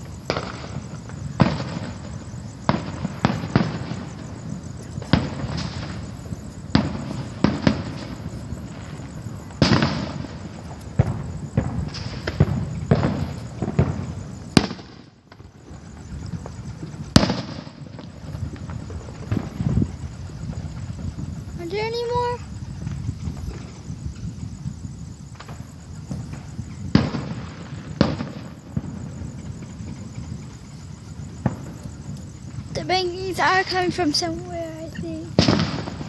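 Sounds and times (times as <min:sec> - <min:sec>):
fireworks banging with echo: 0:00.0 - 0:36.0.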